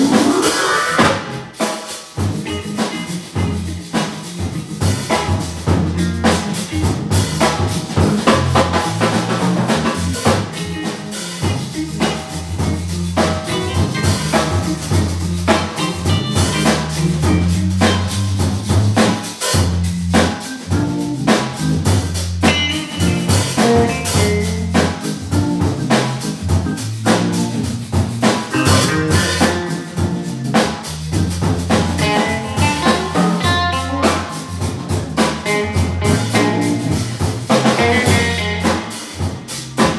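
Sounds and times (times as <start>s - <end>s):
organ bass line: 0.0s - 1.6s, 2.2s - 39.9s
drum kit beat: 0.0s - 39.9s
electric guitar: 0.0s - 39.9s.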